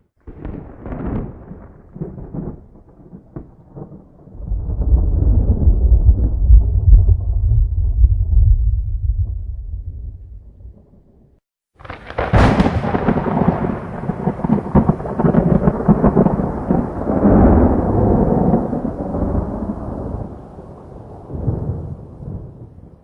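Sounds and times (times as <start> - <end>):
thunder crack and rolling rumble: 0.2 - 11.2, 11.8 - 23.0.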